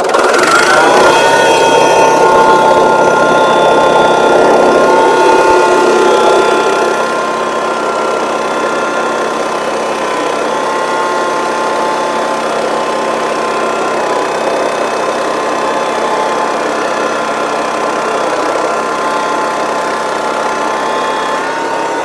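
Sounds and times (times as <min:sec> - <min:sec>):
sawmill engine running: 0:00.0 - 0:22.0.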